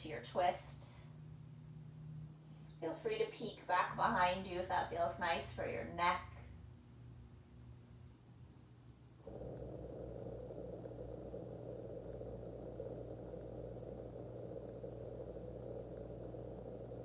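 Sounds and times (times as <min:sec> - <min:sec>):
mechanical hum with low whir: 0:00.0 - 0:17.0.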